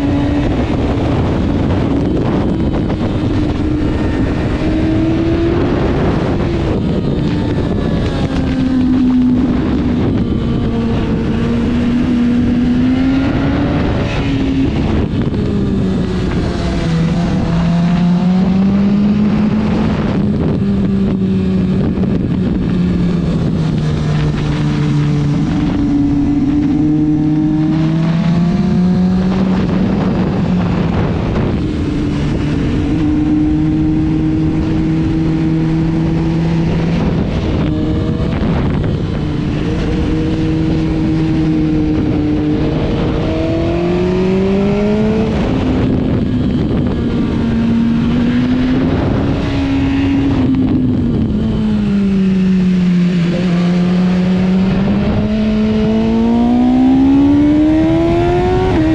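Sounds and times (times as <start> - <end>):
motorcycle engine at speed: 0.0 - 58.9
wind rushing over microphone: 0.0 - 58.9.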